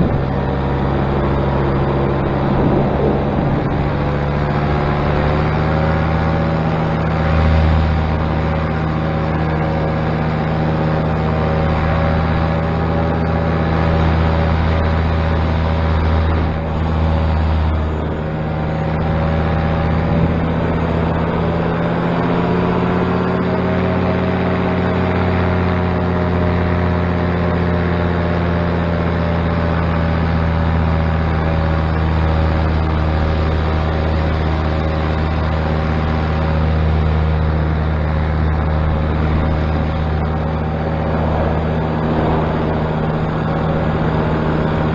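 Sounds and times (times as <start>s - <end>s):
paramotor engine and propeller: 0.0s - 44.9s.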